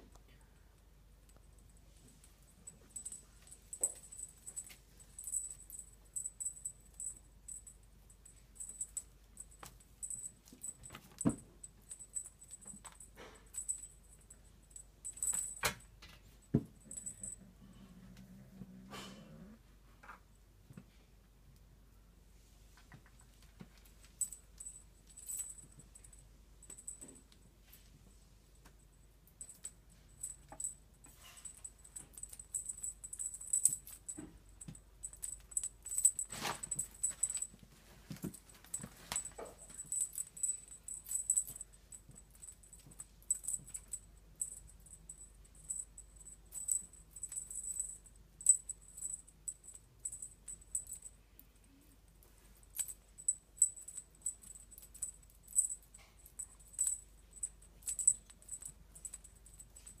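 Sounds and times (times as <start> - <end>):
small bell jingling: 1.4 - 17.5, 24.0 - 27.4, 29.3 - 60.0.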